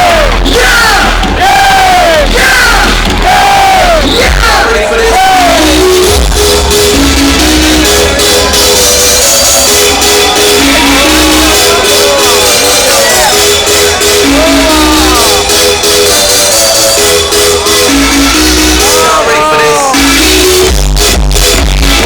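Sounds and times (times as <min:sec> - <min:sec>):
crowd shouting along: 0:00.0 - 0:20.4
loud electronic dance music: 0:00.0 - 0:22.0.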